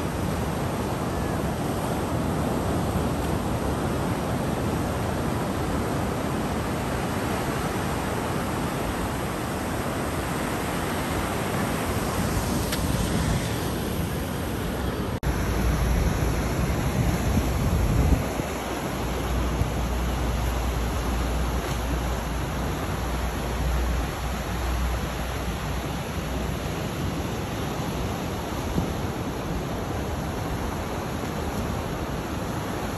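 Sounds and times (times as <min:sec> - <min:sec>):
surf washing against rocks: 0:00.0 - 0:32.9
wind rumbling on microphone: 0:00.0 - 0:32.9.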